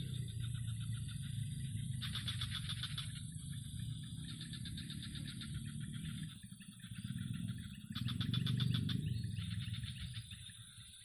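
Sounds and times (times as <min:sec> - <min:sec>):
low rumble: 0:00.0 - 0:10.8
bird trilling: 0:00.0 - 0:11.0.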